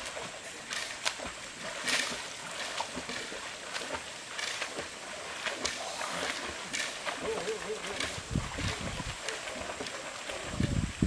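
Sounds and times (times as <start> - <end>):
water splashing from swimmers kicking: 0.0 - 11.0.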